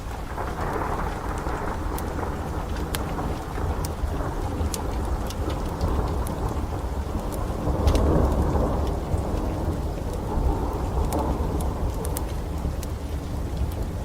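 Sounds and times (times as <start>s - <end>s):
heavy rain: 0.0s - 14.0s
wood fire crackling: 0.0s - 14.0s.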